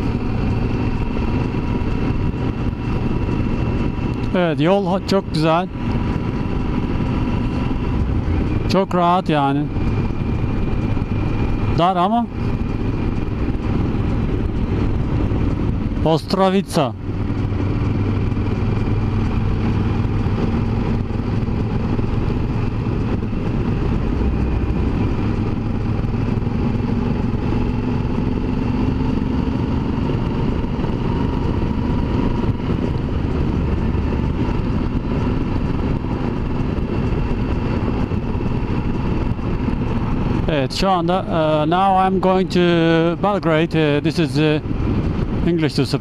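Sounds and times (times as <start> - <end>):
wind rushing: 0.0 - 16.1, 16.7 - 45.7
motorcycle engine cruising: 0.0 - 46.0
road noise: 0.0 - 46.0.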